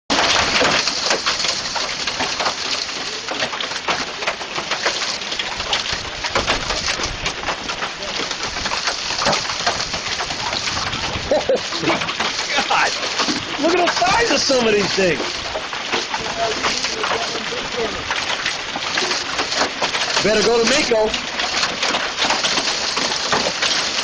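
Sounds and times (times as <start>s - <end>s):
hailstones pelting: 0.1s - 24.0s.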